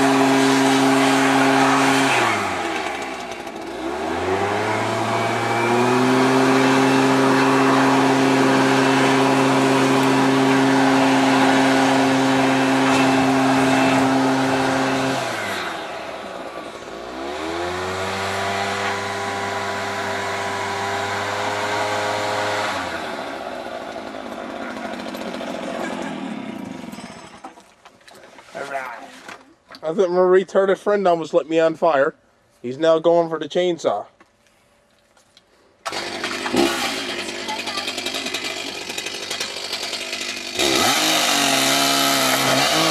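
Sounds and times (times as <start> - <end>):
leaf blower engine running: 0.0 - 27.6, 35.8 - 42.9.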